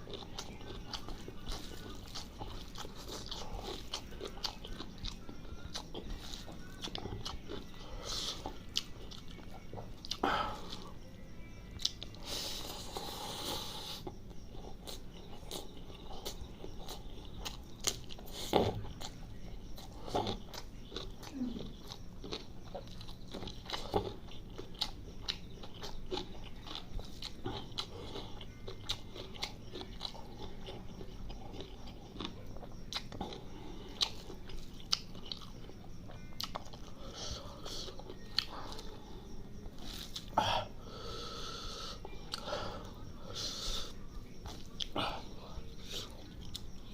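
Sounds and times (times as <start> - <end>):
wet chewing mouth sounds: 0.0 - 10.9, 11.7 - 40.4, 41.1 - 46.8.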